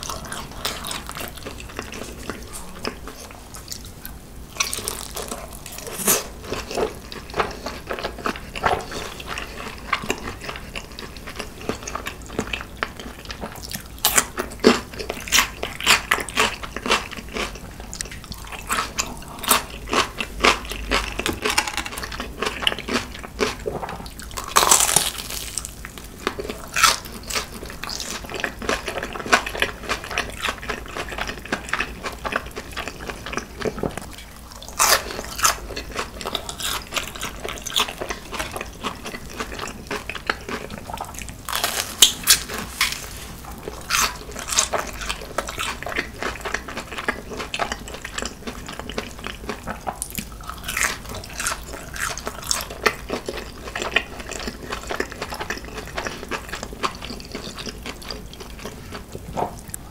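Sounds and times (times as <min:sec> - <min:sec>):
crunchy food chewing: 0:00.0 - 0:59.9.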